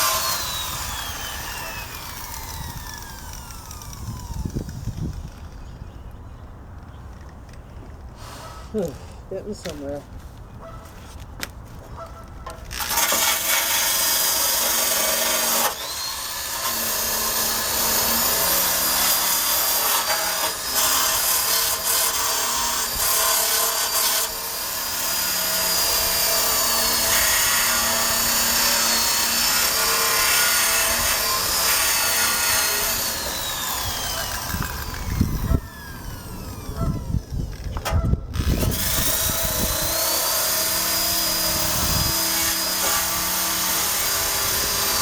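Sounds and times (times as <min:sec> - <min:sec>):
power drill wire brush scraping: 0:00.0 - 0:05.8, 0:12.5 - 0:45.0.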